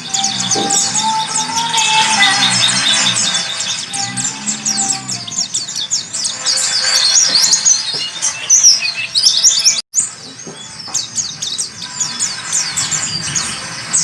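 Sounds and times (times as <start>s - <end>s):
bird twittering song: 0.0s - 14.0s.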